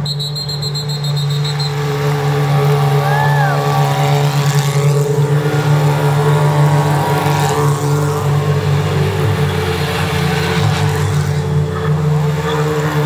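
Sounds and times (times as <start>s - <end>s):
race car engines idling: 0.0s - 13.0s.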